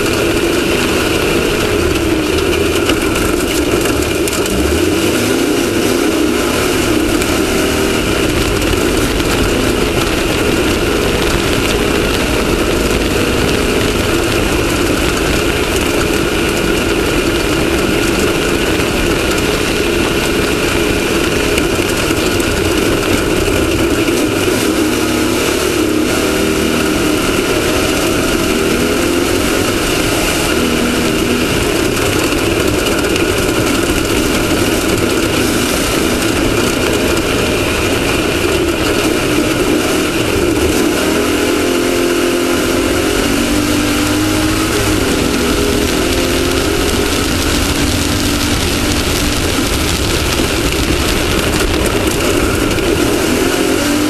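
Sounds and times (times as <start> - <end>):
buggy engine running loud: 0.0 - 54.0.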